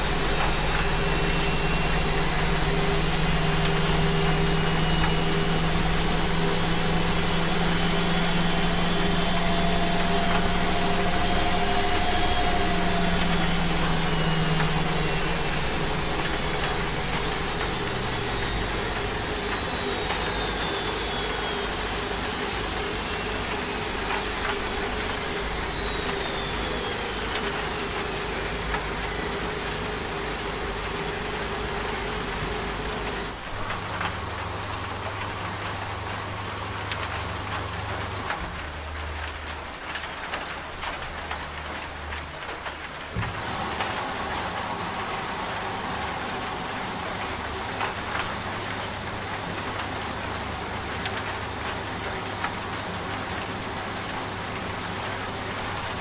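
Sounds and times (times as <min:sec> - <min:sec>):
low hum: 0:00.0 - 0:56.0
rain hiss: 0:00.0 - 0:56.0
washing machine motor whine: 0:00.0 - 0:56.0.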